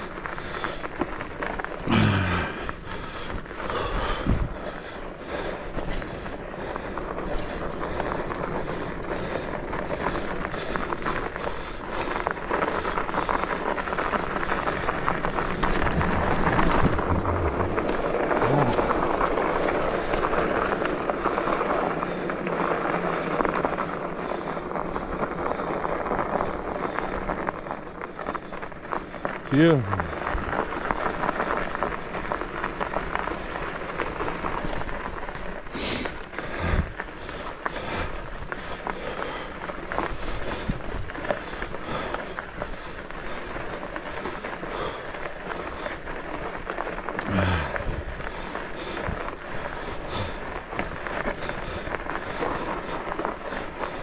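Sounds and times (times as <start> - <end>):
bike clicks and rattles: 0.0 - 54.0
bike tires crunching over snow: 0.0 - 54.0.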